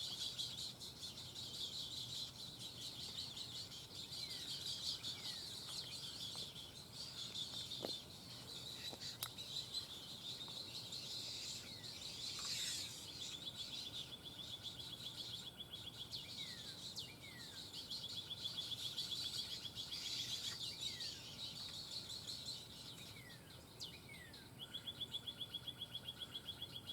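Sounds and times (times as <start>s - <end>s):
birds ticking trills: 0.0s - 26.9s.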